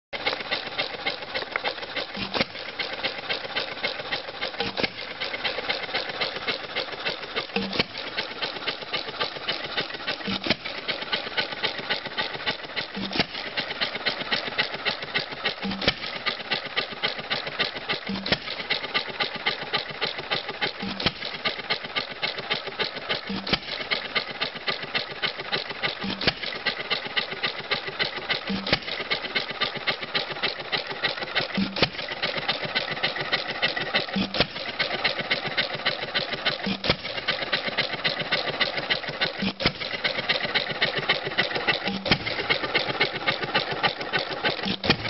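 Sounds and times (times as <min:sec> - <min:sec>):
engine clattering while coasting: 0:00.2 - 0:45.0.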